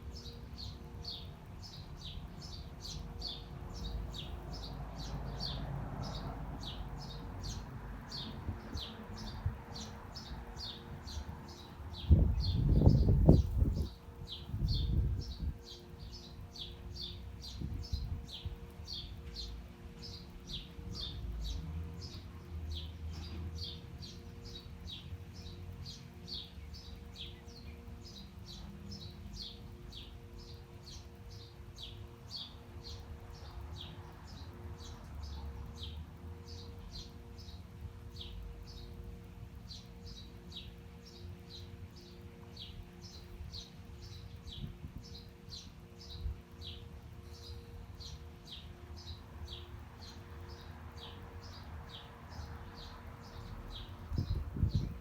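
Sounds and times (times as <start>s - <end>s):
city traffic rumble: 0.0s - 55.0s
bird chirping: 0.1s - 55.0s.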